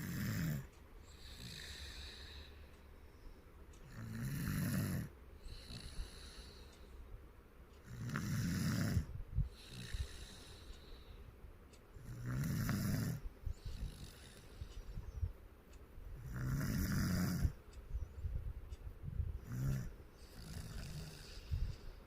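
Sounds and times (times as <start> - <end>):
slow regular snoring: 0.0 - 7.0, 7.8 - 11.2, 11.9 - 15.2, 16.1 - 18.1, 19.3 - 22.0
quiet breathing: 0.0 - 22.0.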